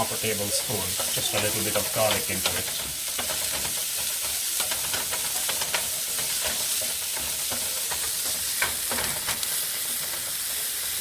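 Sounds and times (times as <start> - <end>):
stirring clicks and scrapes: 0.0 - 10.5
vegetables sizzling in oil: 0.0 - 11.0.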